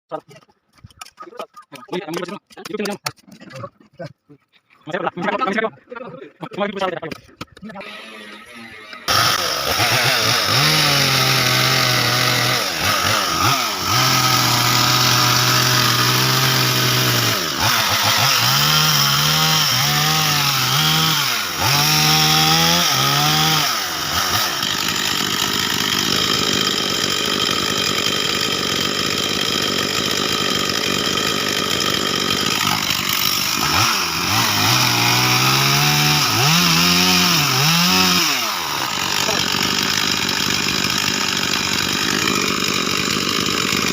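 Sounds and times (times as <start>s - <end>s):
chainsaw revving through tree: 7.8s - 43.9s.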